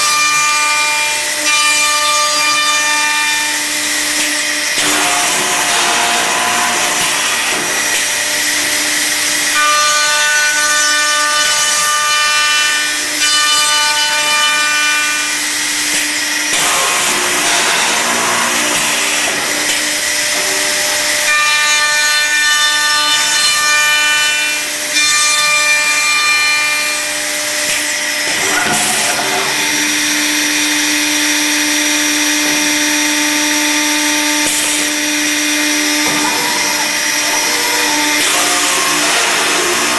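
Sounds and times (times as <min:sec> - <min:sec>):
machine cutting wood: 0:00.0 - 0:39.9.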